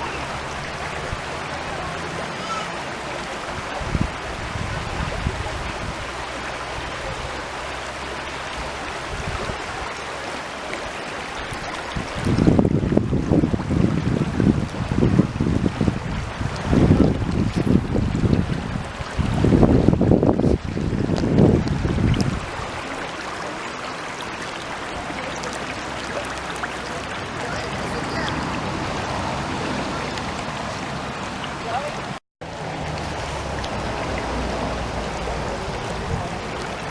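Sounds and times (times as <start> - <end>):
stream water flowing: 0.0 - 36.9
wind buffeting microphone: 3.5 - 7.4, 8.5 - 9.9, 11.4 - 23.4, 24.6 - 36.9.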